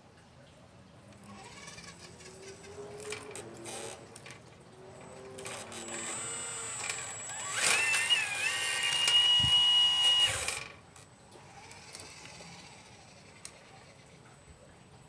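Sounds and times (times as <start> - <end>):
small electric motor whining: 1.1 - 10.8, 11.4 - 14.2.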